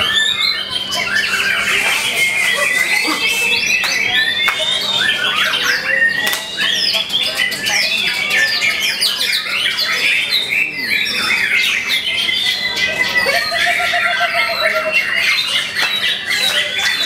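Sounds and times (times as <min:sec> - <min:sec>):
songbird whistling and chattering: 0:00.0 - 0:17.0.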